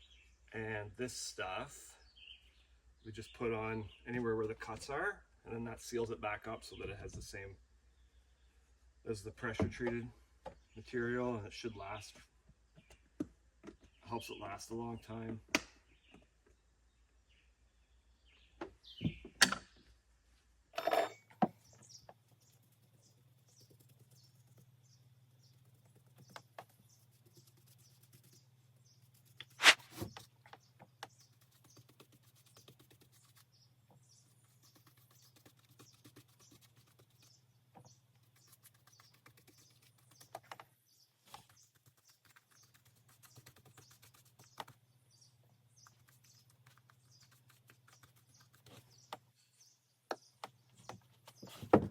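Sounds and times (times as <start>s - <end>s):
birds chirping: 0.0s - 20.0s, 20.8s - 51.9s.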